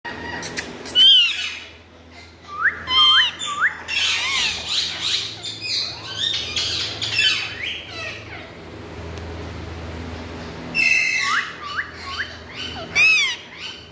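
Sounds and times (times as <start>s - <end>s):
parakeets calling and chattering: 0.1s - 13.9s.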